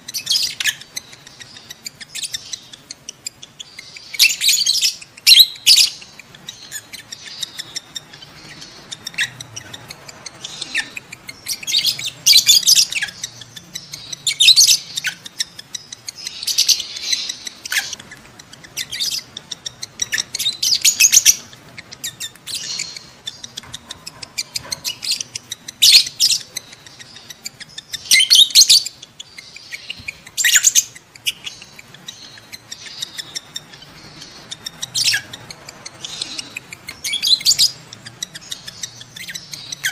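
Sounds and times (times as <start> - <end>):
lovebird shrill chattering chirps: 0.0 - 39.9
soft ticking chatter: 0.0 - 39.9.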